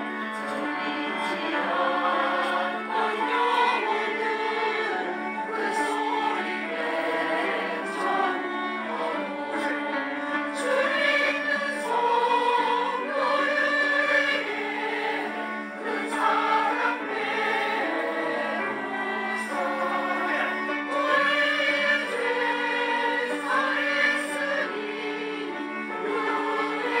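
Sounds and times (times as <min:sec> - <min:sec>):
church choir singing: 0:00.0 - 0:27.0.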